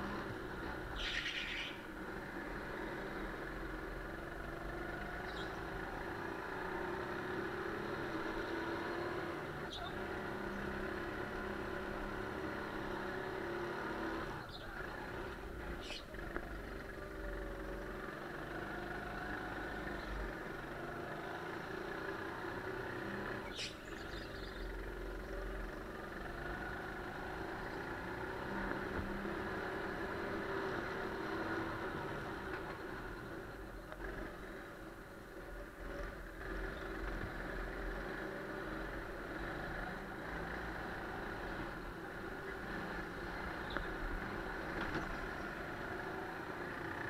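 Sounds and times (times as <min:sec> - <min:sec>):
go-kart engine running: 0:00.0 - 0:47.0.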